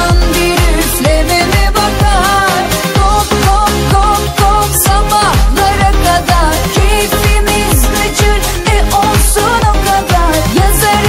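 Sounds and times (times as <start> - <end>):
dance-pop music: 0.0 - 11.0.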